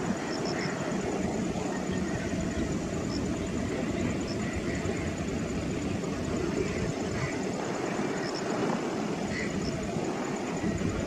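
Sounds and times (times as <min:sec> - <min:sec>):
distant jet engines rumbling: 0:00.0 - 0:11.0.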